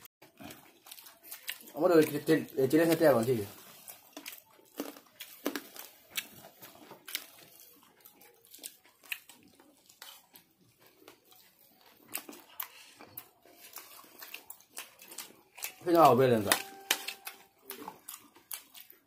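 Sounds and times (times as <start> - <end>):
chewing and biting food: 0.2 - 19.0.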